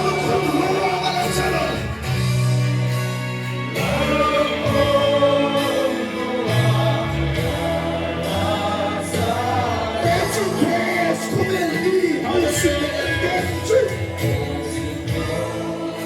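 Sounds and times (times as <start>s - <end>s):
group of voices singing: 0.0s - 16.0s
held bass notes: 0.0s - 16.0s.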